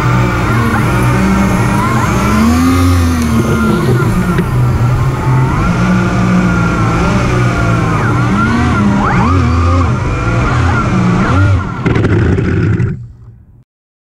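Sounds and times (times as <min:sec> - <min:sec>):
hovercraft propellers whirring: 0:00.0 - 0:13.3.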